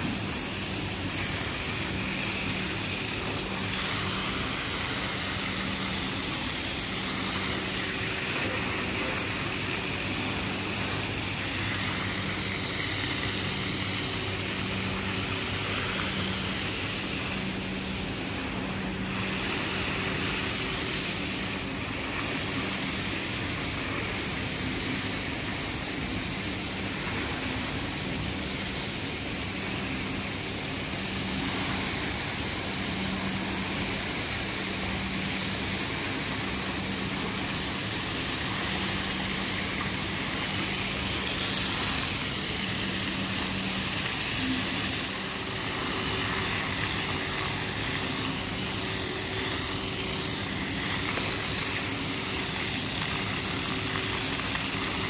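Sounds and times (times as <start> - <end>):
even hiss: 0.0 - 55.0
motor hum: 0.0 - 55.0.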